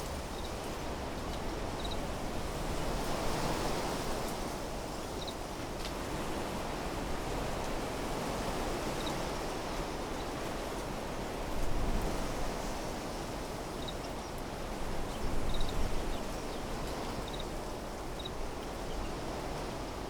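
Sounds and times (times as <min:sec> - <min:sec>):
wind blowing through trees: 0:00.0 - 0:20.0.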